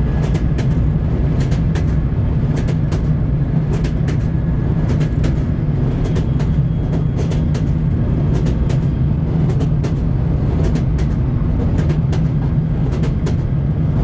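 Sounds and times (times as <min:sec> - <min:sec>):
train wheels clacking over rail joints: 0:00.0 - 0:13.6
low rumble of rolling carriage: 0:00.0 - 0:14.0.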